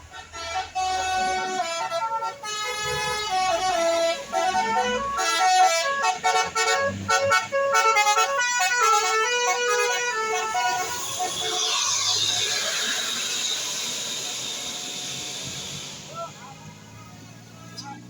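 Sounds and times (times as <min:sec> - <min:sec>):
multi-tone bus air horn tune: 0:00.0 - 0:17.8.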